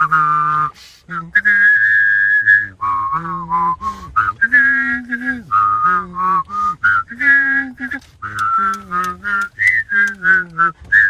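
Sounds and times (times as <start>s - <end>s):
person whistling a slow melody: 0.0s - 11.0s.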